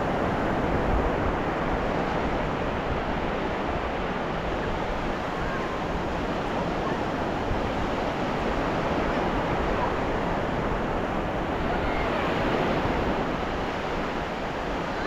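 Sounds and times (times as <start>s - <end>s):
ocean surf washing on beach: 0.0s - 15.0s
wind noise on microphone: 0.0s - 15.0s.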